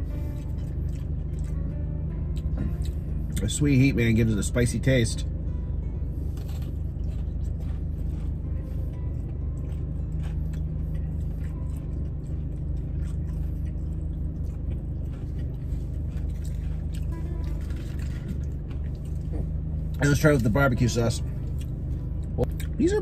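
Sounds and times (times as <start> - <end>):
close chewing: 0.0 - 3.5, 6.2 - 23.0
car engine idling: 0.0 - 23.0.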